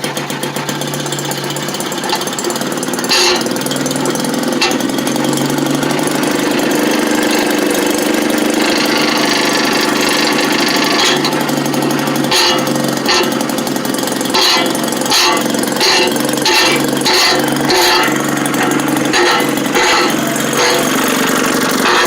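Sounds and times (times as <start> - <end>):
rattly surges: 0.0 - 22.0
small gasoline engine puttering: 0.0 - 22.0.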